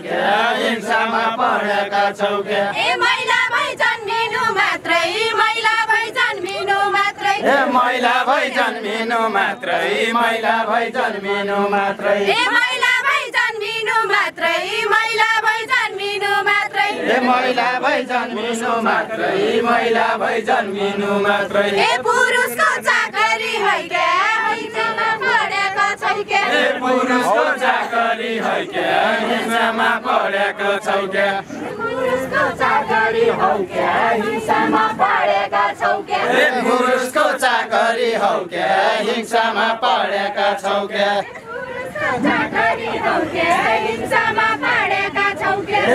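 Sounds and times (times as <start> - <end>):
group singing folk song in unison: 0.0 - 45.9.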